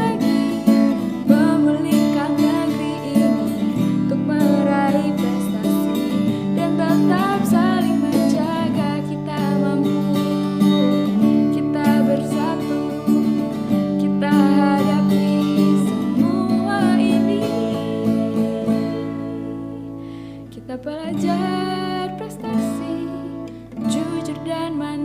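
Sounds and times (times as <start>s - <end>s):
strummed acoustic guitar: 0.0s - 25.0s
sung melodic line: 0.0s - 25.0s.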